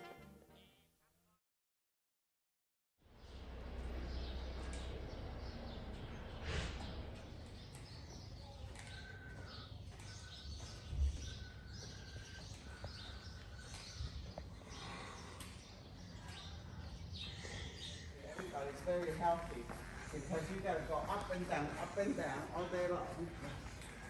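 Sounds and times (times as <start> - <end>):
birds chirping: 3.2 - 24.0.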